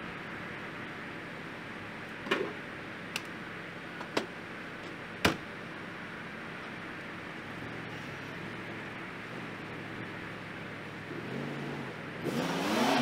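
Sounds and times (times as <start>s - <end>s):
steady background hiss: 0.0s - 12.3s.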